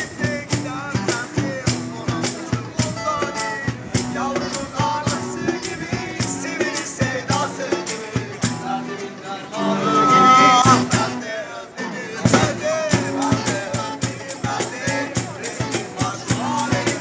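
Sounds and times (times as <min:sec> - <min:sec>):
cajon beat: 0:00.0 - 0:11.3, 0:12.2 - 0:17.0
acoustic guitars strumming: 0:00.0 - 0:17.0.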